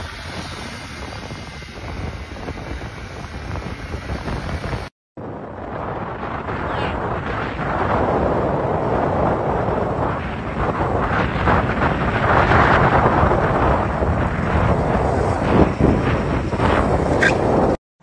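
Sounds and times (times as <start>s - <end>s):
wind buffeting microphone: 0.0s - 17.8s.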